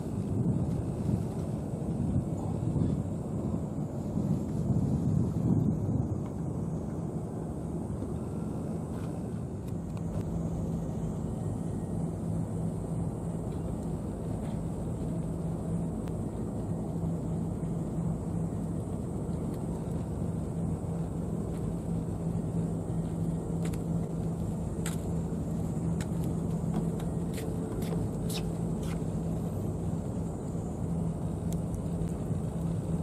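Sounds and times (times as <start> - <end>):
low hum: 0.0 - 33.0
low outdoor rumble: 0.0 - 33.0.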